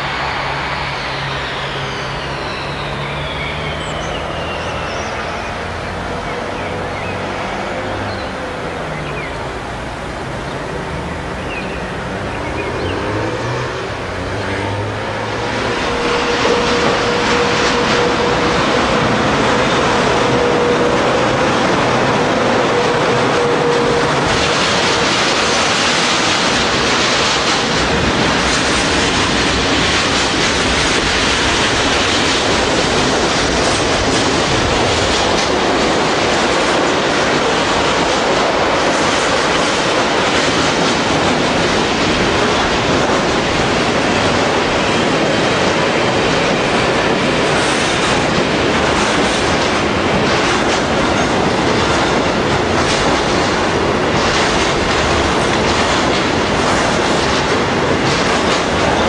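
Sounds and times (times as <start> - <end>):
thin steady tone from train: 0.0 - 59.0
train wheels rumbling over rails: 0.0 - 59.0.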